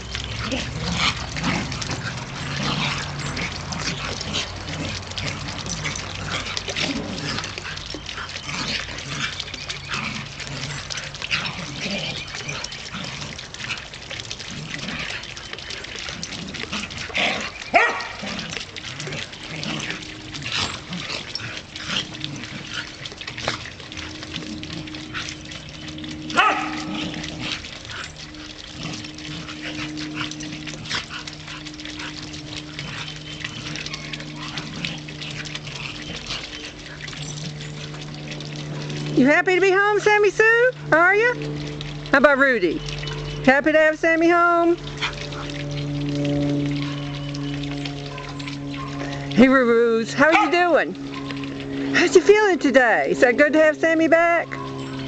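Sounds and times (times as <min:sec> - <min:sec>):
dogs barking: 0:00.0 - 0:39.0, 0:44.8 - 0:49.4, 0:50.1 - 0:52.1.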